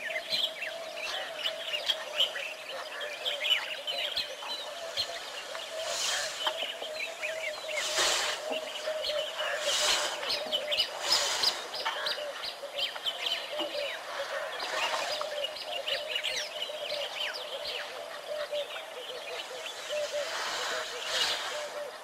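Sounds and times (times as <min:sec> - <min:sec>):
birds chirping and whistling: 0:00.0 - 0:22.0
repeated low bird call: 0:00.0 - 0:22.0.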